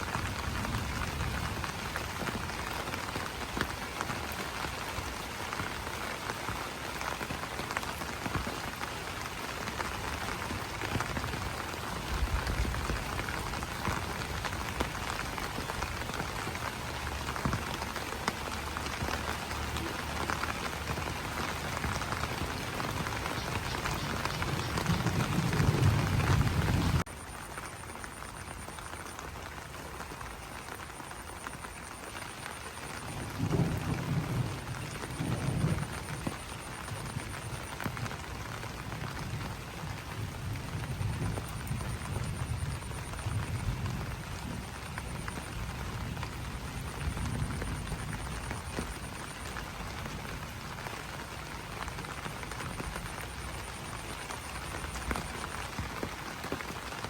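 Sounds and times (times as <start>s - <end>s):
rain on leaves: 0.0s - 57.0s.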